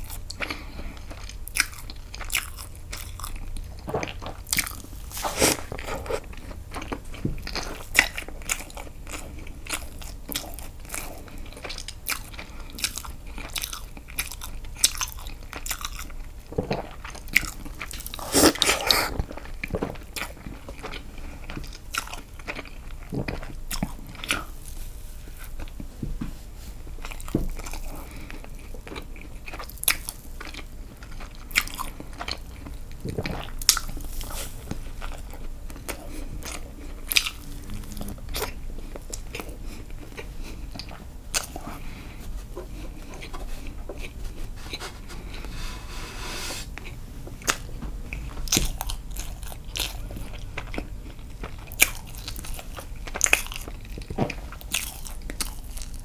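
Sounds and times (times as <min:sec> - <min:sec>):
person chewing cake: 0:00.0 - 0:56.0.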